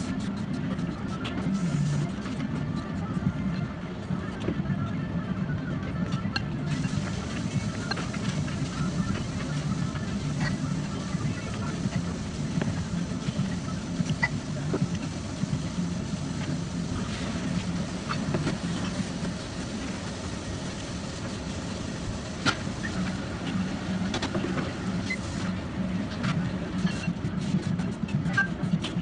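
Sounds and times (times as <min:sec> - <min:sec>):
low restaurant hum: 0:00.0 - 0:29.0.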